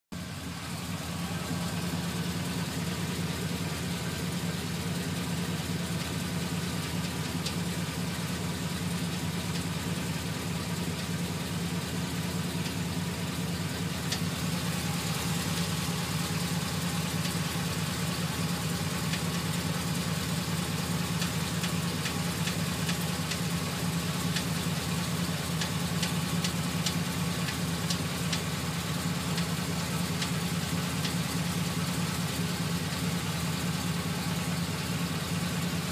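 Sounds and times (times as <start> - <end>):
engine idling: 0.1 - 35.9
rapid light engine ticking: 0.1 - 35.9.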